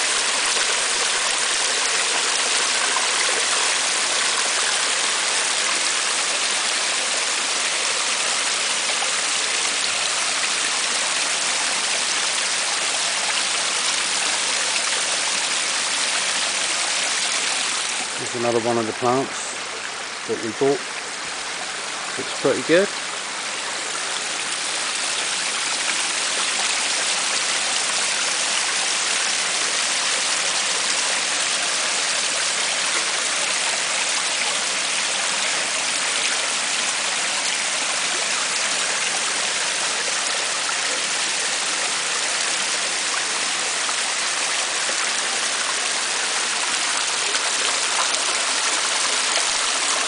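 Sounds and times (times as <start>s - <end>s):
waterfall splashing into pond: 0.0s - 50.0s.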